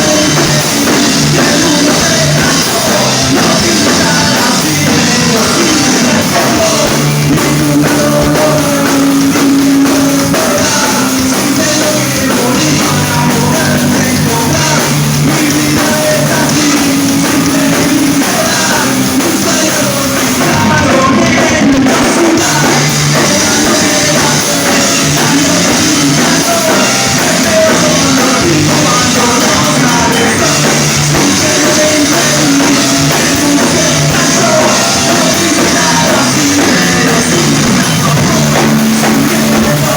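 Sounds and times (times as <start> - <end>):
drum kit: 0.0 - 39.9
person singing: 0.0 - 39.9
rock band playing: 0.0 - 39.9.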